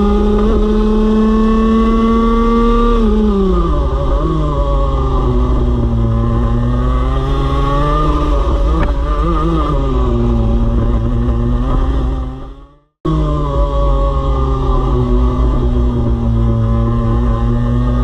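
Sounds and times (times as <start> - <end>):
racing kart engine running hard: 0.0 - 18.0.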